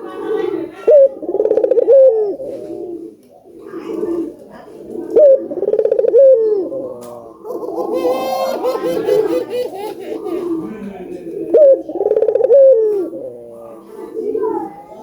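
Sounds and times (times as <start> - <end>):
dove cooing loudly: 0.0 - 15.0
soft low dove coos: 0.0 - 15.0.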